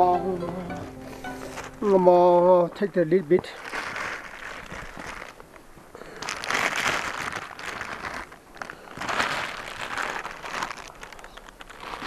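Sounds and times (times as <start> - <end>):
plastic bag of rice crinkling: 1.1 - 12.0.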